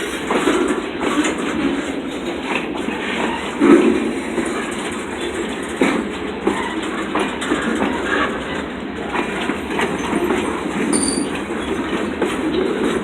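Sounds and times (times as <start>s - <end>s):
train wheels clacking over rail joints: 0.0s - 13.0s.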